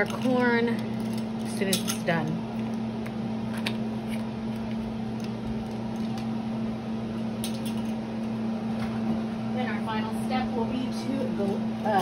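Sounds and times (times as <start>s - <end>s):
kitchen appliance humming: 0.0s - 12.0s.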